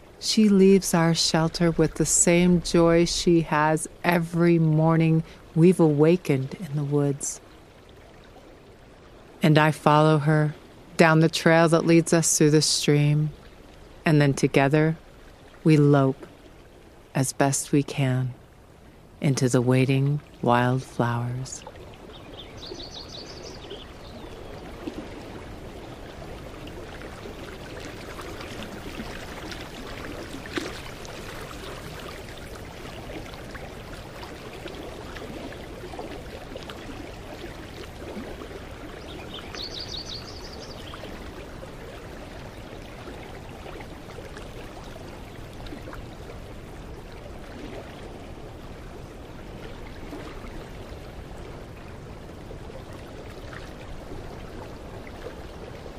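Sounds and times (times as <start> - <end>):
creek flowing: 0.0 - 55.9.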